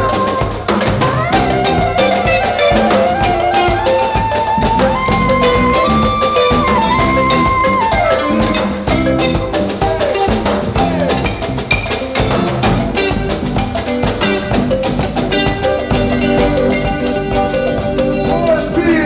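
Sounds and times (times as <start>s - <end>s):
balafon mallet notes: 0.0s - 19.0s
drum kit: 0.0s - 19.0s
electric bass: 0.0s - 19.0s.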